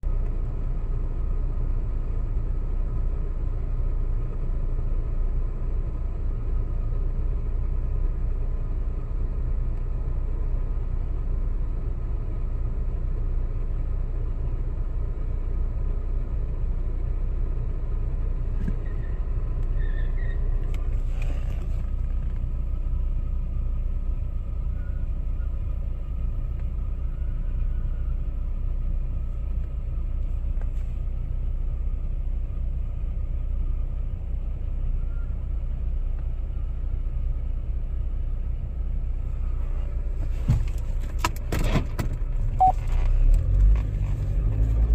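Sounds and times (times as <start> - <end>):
motor vehicle rumbling: 0.0 - 44.9.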